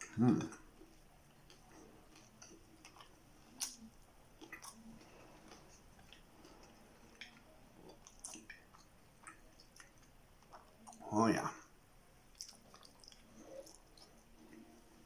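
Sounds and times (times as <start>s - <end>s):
chewing with wet mouth clicks: 0.0s - 11.0s, 12.2s - 14.7s.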